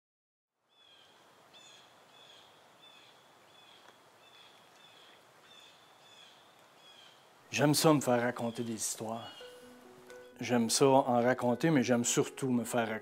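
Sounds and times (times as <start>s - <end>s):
soft woodland hiss: 0.7s - 12.9s.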